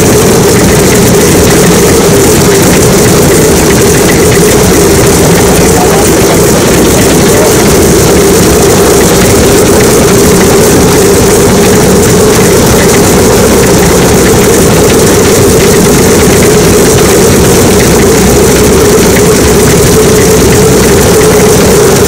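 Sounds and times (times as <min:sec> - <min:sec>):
radial aircraft engine running: 0:00.0 - 0:22.0.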